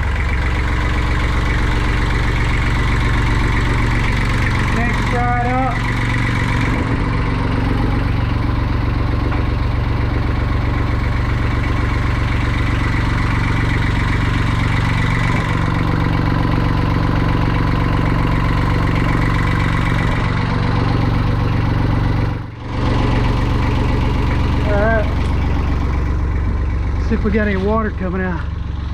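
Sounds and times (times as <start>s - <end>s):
marine diesel engine idling: 0.0s - 28.9s.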